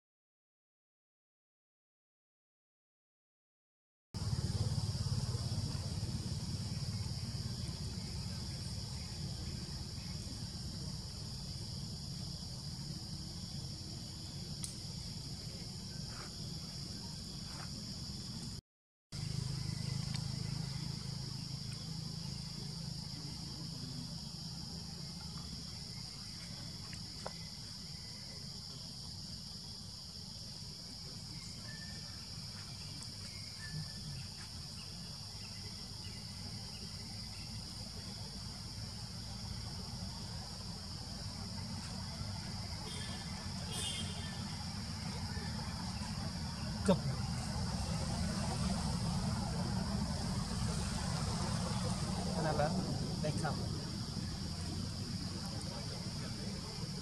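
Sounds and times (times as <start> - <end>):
high insect drone: 4.2 - 18.6, 19.2 - 57.0.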